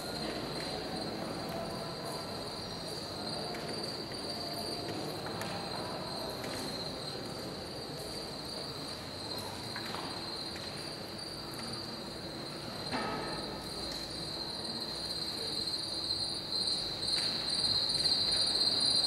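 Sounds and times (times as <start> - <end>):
cricket chorus: 0.0 - 19.0.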